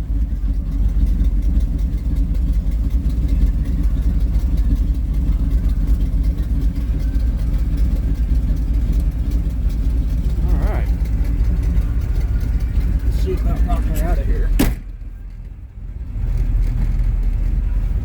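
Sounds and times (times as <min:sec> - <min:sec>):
pickup engine idling: 0:00.0 - 0:18.0.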